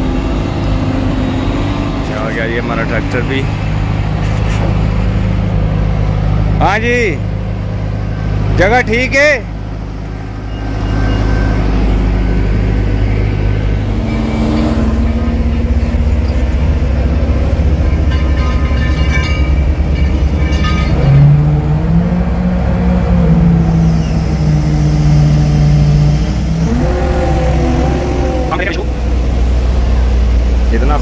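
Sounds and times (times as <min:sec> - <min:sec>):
crane diesel engine running: 0:00.0 - 0:31.0.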